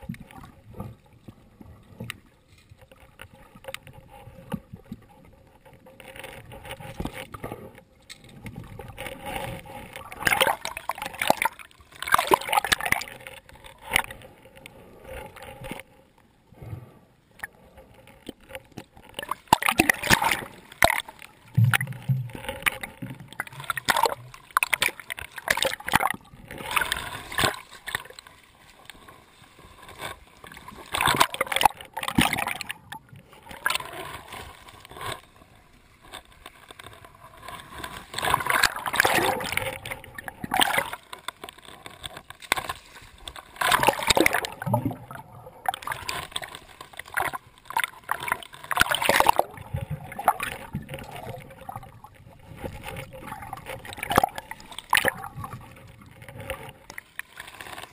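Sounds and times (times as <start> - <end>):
sea water sloshing and splashing: 0.0 - 16.0, 16.6 - 57.9.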